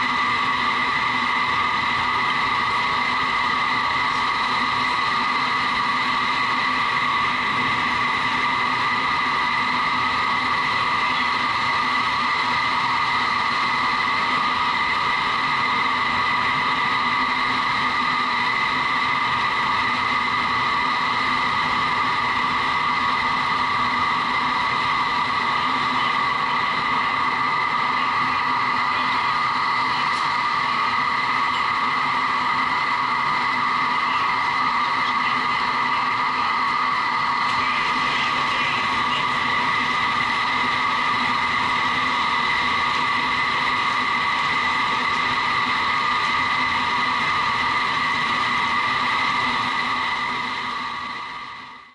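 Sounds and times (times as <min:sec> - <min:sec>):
whining fans: 0:00.0 - 0:51.9.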